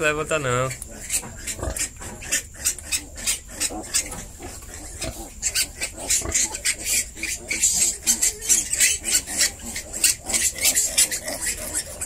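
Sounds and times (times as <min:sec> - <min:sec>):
piglets rustling and scuffling: 0:00.0 - 0:12.0.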